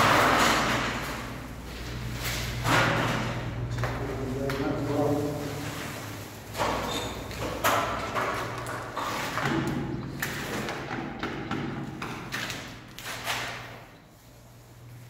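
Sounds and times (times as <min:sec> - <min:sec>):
paint roller strokes on wall: 0:00.0 - 0:10.9, 0:12.1 - 0:15.0.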